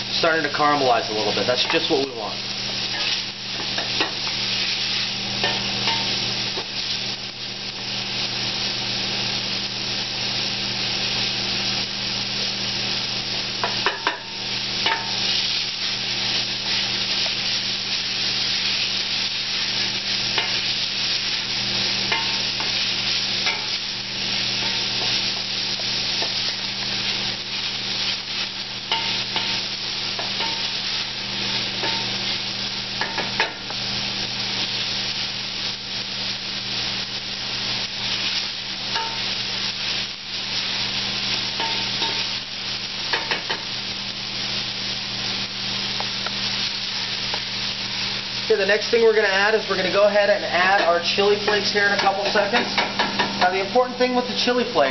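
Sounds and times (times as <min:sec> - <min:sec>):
garlic sizzling in hot oil: 0:00.0 - 0:54.9.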